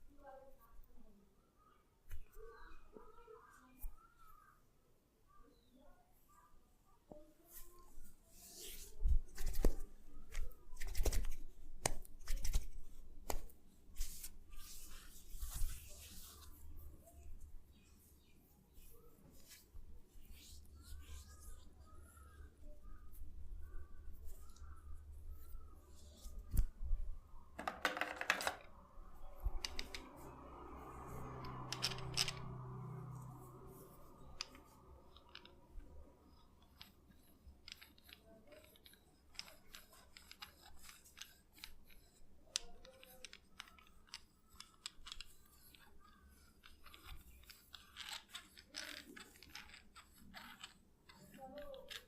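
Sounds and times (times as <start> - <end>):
fingers rubbing through hair: 7.5 - 26.8, 29.5 - 52.0.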